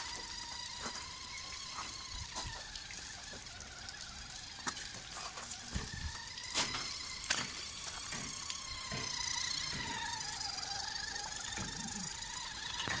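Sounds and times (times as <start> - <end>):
small electric motor whine: 0.0 - 13.0.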